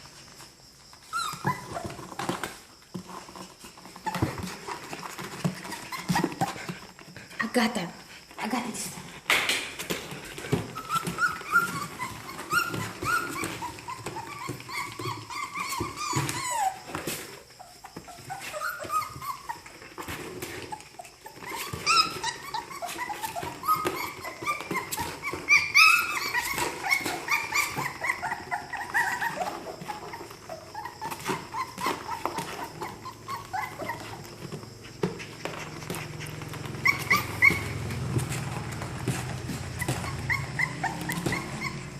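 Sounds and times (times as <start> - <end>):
puppies whimpering and squealing: 0.0 - 8.4, 9.8 - 41.9.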